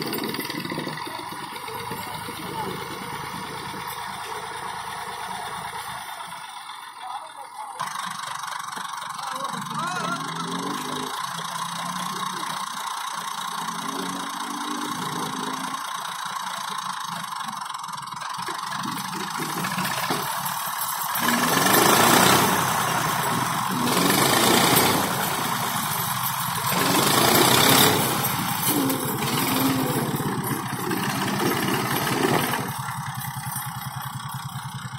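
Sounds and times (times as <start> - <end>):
tractor diesel engine revving: 0.0 - 34.9.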